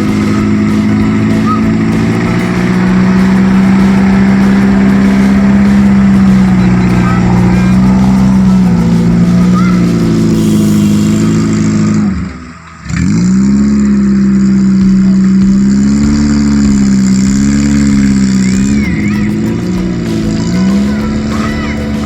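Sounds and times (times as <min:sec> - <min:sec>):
engine revving hard: 0:00.0 - 0:22.0.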